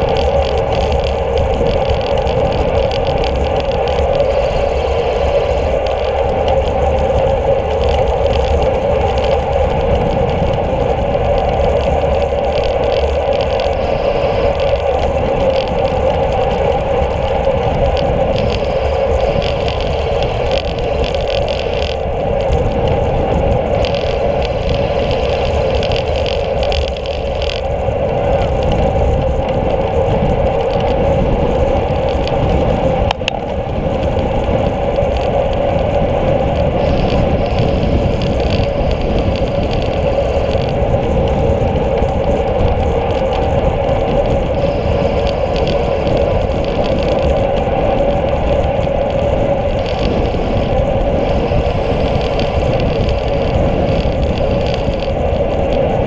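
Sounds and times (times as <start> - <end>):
bike tyre road rumble: 0.0 - 56.0
wind rush: 0.0 - 56.0.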